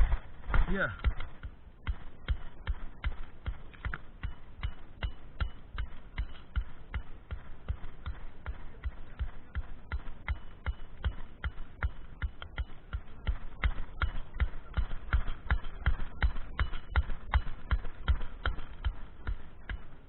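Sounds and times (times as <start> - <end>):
dull thuds: 0.0 - 20.0.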